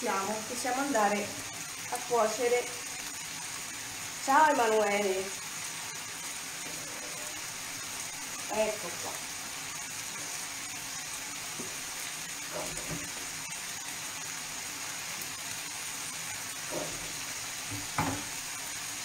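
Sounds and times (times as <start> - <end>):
water boiling with steady hiss: 0.0 - 19.0.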